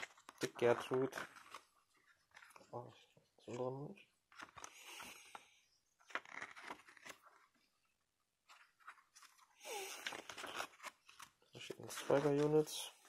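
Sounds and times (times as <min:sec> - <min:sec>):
paper pages rustling and turning: 0:00.0 - 0:07.8, 0:08.4 - 0:13.0.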